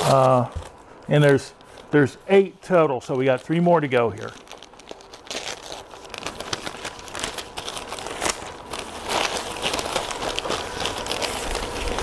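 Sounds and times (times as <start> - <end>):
newspaper crinkling: 0.0 - 12.0.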